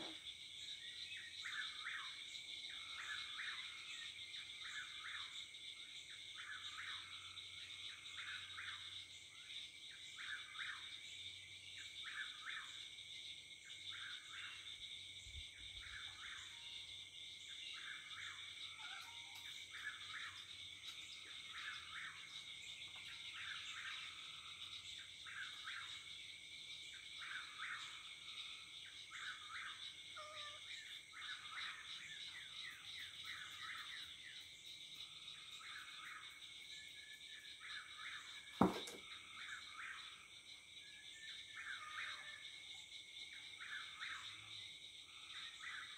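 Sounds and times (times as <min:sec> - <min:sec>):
frogs and insects droning: 0:00.0 - 0:45.9.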